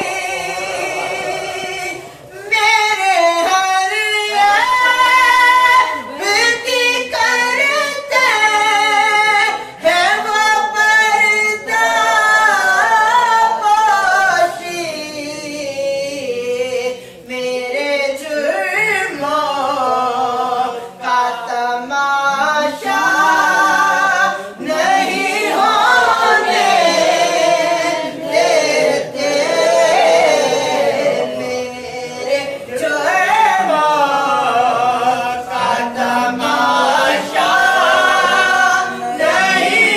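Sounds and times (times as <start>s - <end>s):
person singing unaccompanied: 0.0s - 39.9s.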